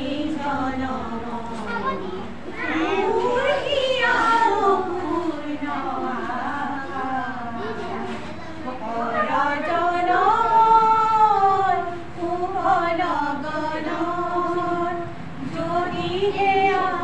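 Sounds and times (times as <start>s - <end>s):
women singing unaccompanied: 0.0s - 17.0s.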